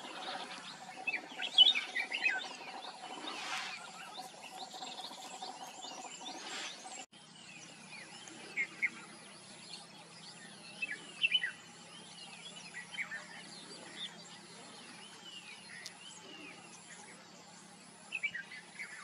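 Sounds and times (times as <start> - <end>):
other birds chirping: 0.0 - 19.0.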